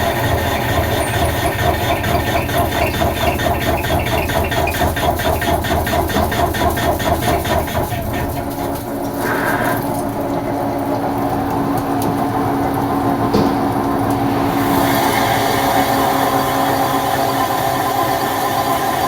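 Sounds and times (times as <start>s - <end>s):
lathe running: 0.0s - 11.2s, 14.0s - 19.0s.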